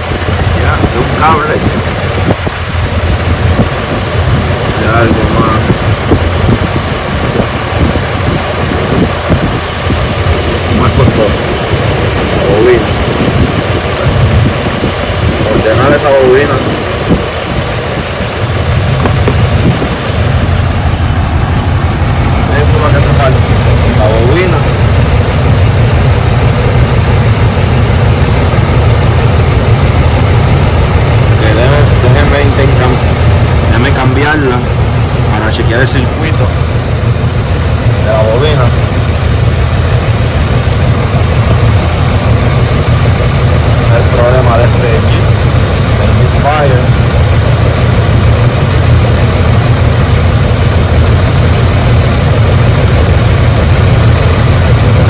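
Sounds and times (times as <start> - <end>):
engine idling with misfire: 0.0 - 55.0.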